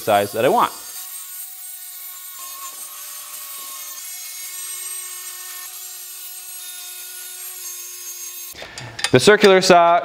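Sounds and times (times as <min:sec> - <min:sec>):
circular saw cutting plywood: 0:00.0 - 0:08.6.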